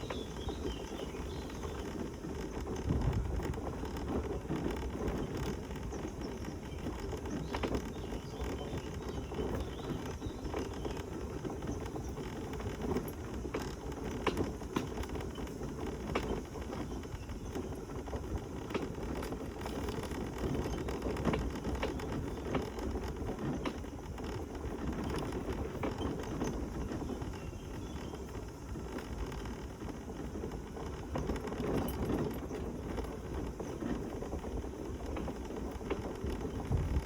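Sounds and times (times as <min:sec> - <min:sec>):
clicks and rattles over bumps: 0:00.0 - 0:37.0
tyres rumbling on path: 0:00.0 - 0:37.0.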